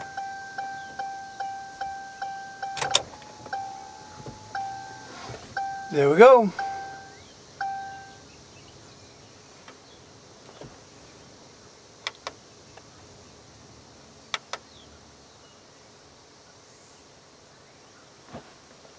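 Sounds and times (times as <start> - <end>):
faint steady hiss: 0.0 - 18.9.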